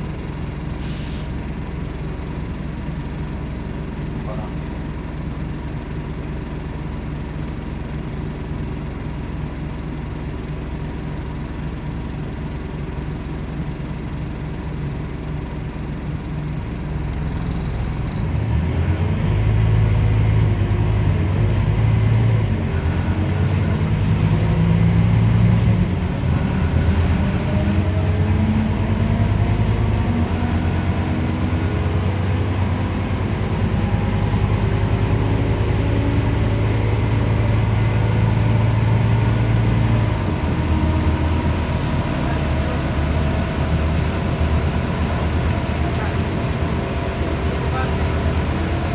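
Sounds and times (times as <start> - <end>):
bus diesel engine accelerating: 0.0 - 48.9.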